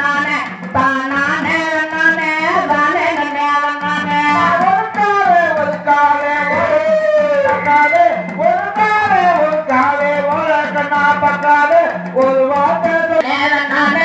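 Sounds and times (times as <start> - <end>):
drum beat: 0.0 - 14.0.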